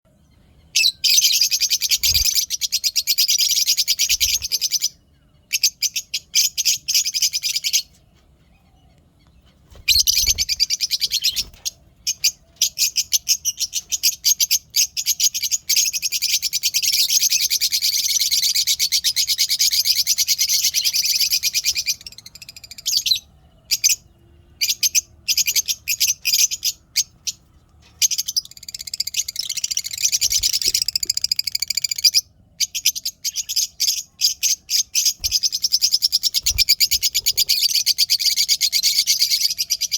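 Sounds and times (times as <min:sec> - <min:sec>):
lovebirds chirping: 0:00.1 - 0:39.9.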